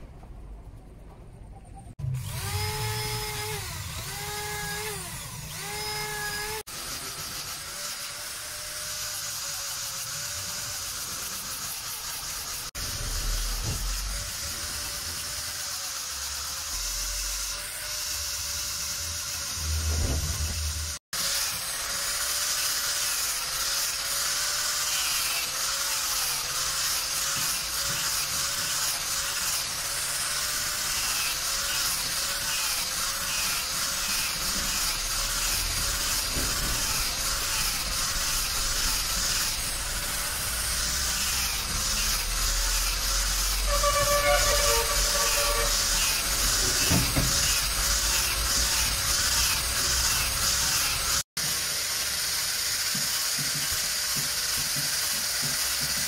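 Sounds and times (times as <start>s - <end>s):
power tool whine: 2.0s - 56.0s
angle grinder sanding wood: 2.2s - 56.0s.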